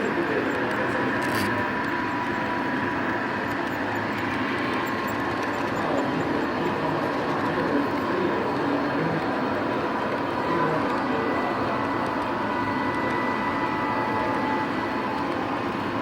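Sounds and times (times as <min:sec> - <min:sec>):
model train whirring on track: 0:00.0 - 0:16.0.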